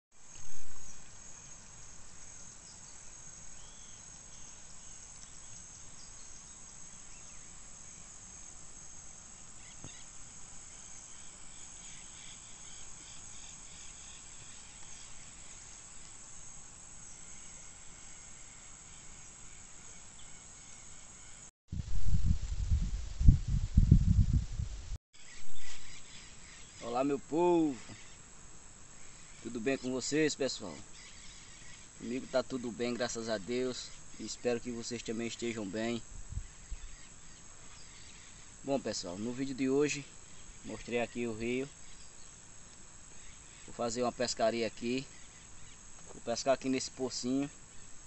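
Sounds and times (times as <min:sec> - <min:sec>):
faint outdoor hiss: 0:00.1 - 0:48.0
insects chirring: 0:00.2 - 0:24.4, 0:25.2 - 0:48.0
short insect chirps: 0:00.2 - 0:24.4, 0:25.2 - 0:48.0.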